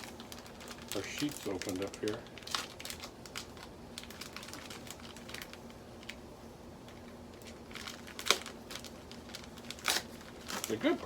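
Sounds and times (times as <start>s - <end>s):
plastic bag crinkling: 0.0s - 6.2s, 6.8s - 11.0s
faint steady hum: 0.0s - 11.0s.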